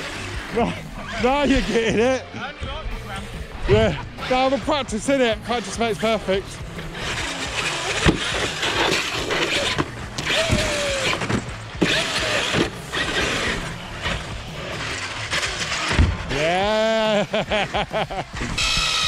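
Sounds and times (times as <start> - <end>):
tyre noise: 0.0 - 19.0
electric motor whine: 3.0 - 19.0.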